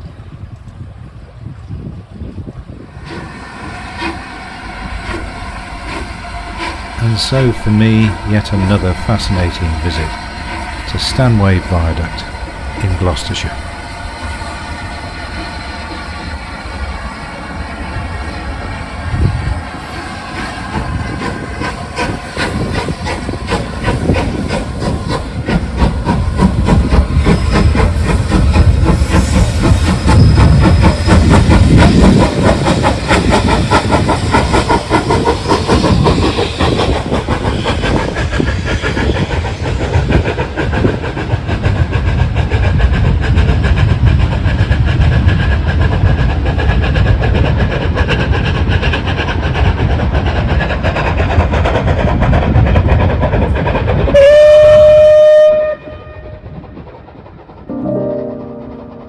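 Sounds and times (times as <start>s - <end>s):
train running past: 0.0s - 59.0s.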